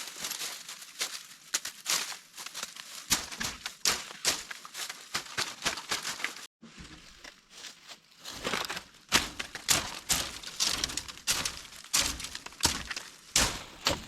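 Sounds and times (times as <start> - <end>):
crackling and crunching: 0.0 - 14.0.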